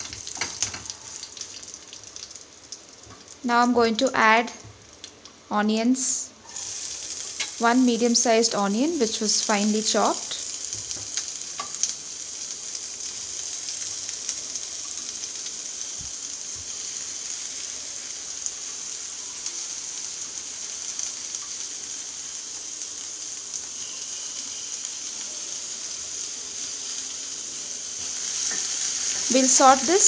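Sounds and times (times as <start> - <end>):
onion sizzling in oil: 0.0 - 30.0.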